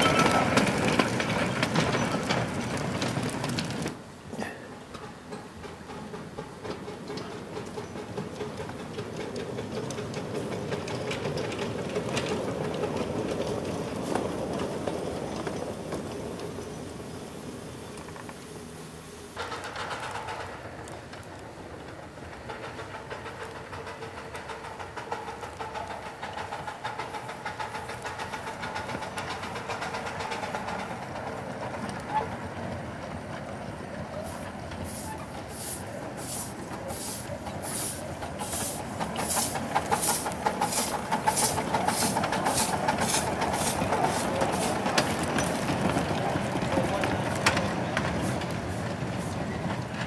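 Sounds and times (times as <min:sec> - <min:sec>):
steam locomotive chuffing: 0:00.0 - 0:50.0.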